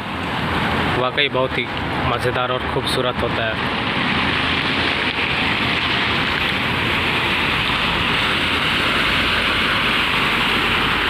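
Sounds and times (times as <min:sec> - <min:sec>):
car tyres through water: 0:00.0 - 0:11.0.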